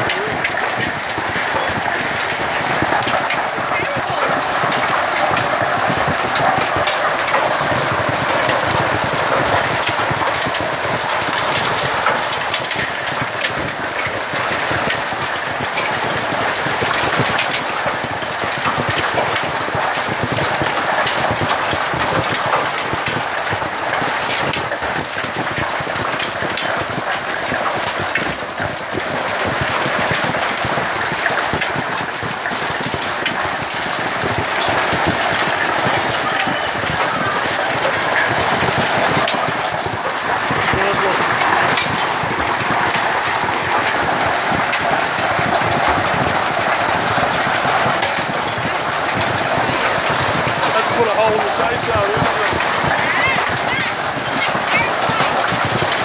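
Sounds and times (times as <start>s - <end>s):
hailstones striking: 0.0s - 56.0s
heavy rain falling: 0.0s - 56.0s.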